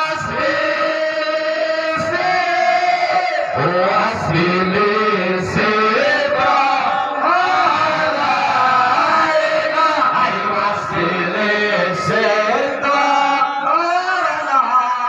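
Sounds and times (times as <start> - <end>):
men chanting devotional song: 0.0 - 15.0.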